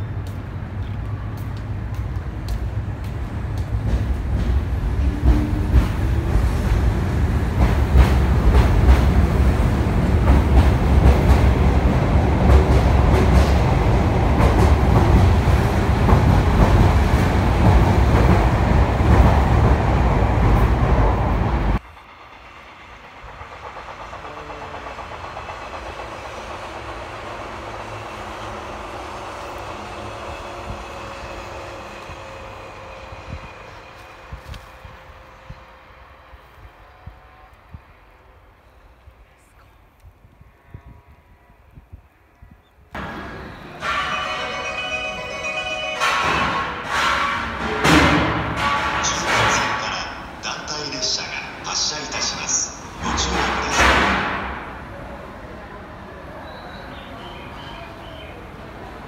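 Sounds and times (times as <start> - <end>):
electric train rumbling: 0.0 - 59.0
passenger train running past: 0.0 - 59.0.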